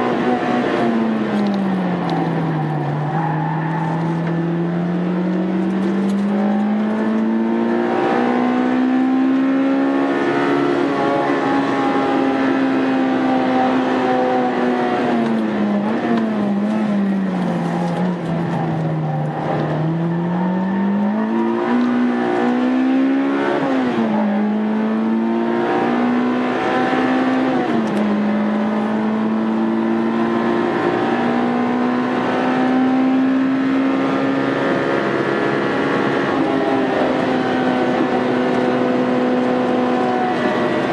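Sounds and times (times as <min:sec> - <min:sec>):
car engine revving hard: 0:00.0 - 0:40.9.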